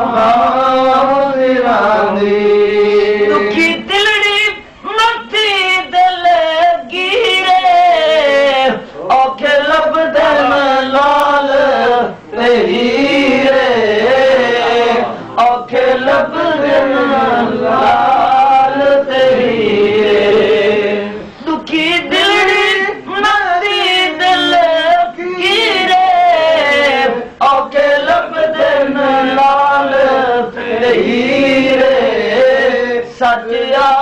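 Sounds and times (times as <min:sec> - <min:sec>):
man singing devotional song: 0:00.0 - 0:34.0.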